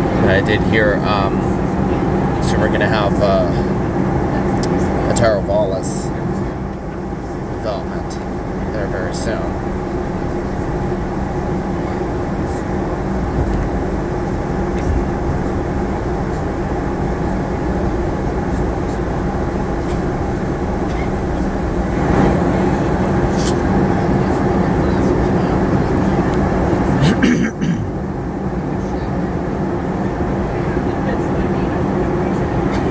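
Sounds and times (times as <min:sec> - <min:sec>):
airflow rushing over fuselage: 0:00.0 - 0:32.9
jet engines humming: 0:00.0 - 0:32.9.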